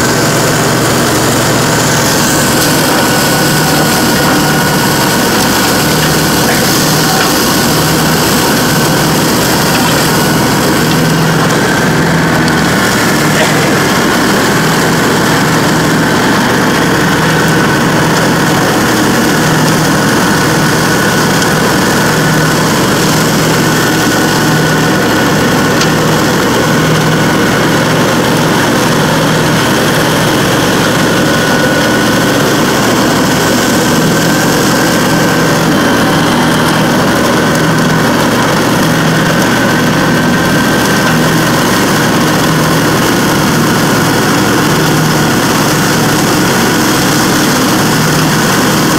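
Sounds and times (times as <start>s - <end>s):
high whine of mower blades: 0.0s - 48.9s
mower chopping dry leaves: 0.0s - 48.9s
mower engine drone: 0.0s - 48.9s.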